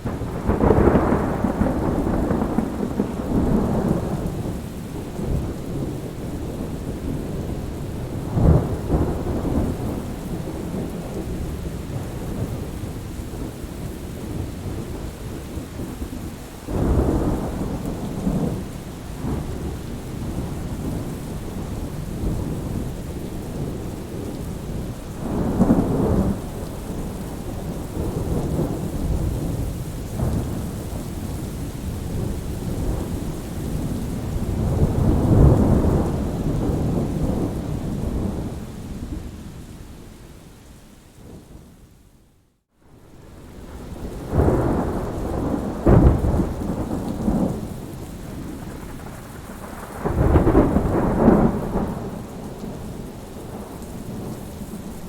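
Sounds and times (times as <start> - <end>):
thunder rumbling: 0.0 - 16.1, 16.7 - 39.4, 43.0 - 55.0
steady rain: 0.0 - 55.0.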